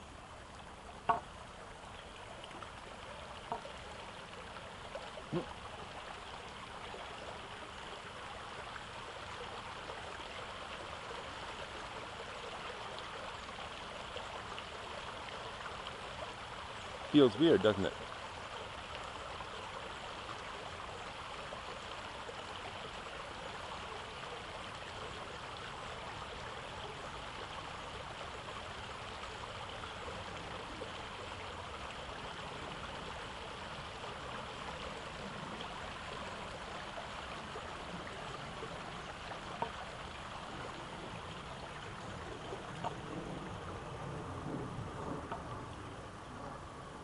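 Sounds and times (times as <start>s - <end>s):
stream flowing over rocks: 0.0s - 47.0s.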